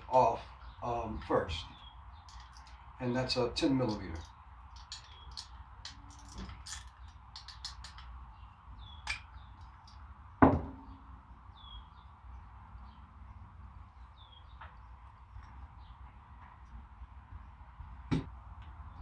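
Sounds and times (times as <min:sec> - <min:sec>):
birds chirping: 0:00.0 - 0:10.0, 0:10.8 - 0:16.2.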